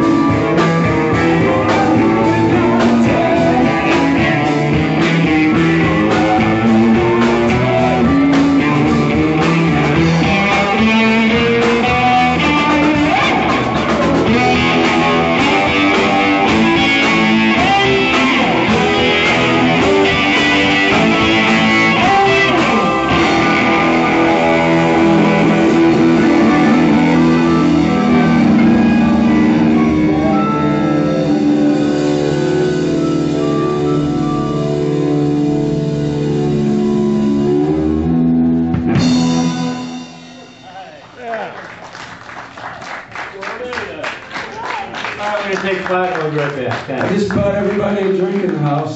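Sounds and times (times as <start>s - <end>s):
electric guitar: 0.0s - 41.8s
blues band playing: 0.0s - 48.9s.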